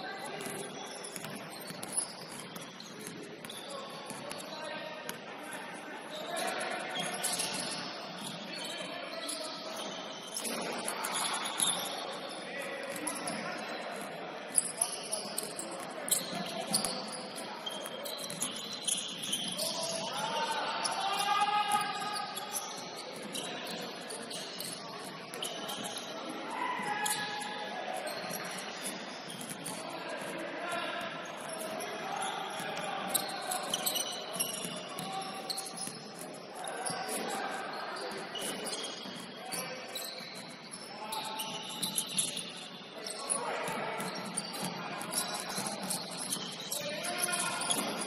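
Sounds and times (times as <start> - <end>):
sneakers squeaking on court: 0.1 - 26.2, 26.8 - 30.4, 31.0 - 48.0.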